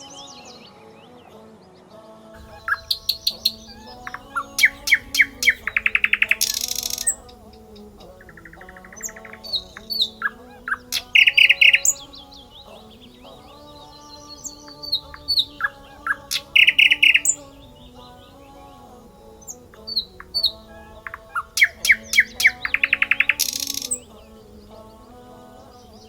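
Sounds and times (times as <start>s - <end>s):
soft music bed: 0.0s - 26.0s
songbirds chirping and trilling: 0.0s - 26.0s.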